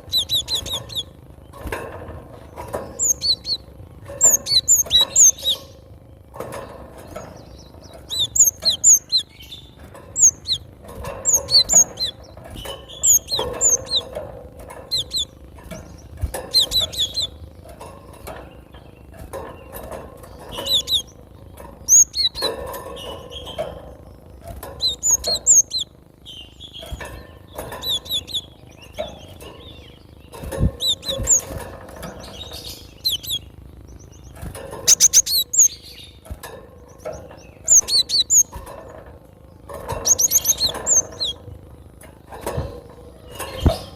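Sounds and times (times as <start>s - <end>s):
bird chirping and trilling: 0.0s - 43.9s.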